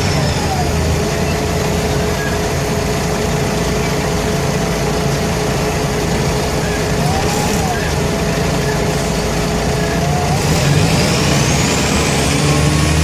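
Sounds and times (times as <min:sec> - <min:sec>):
bus diesel engine running: 0:00.0 - 0:13.0
steady whine: 0:00.0 - 0:13.0.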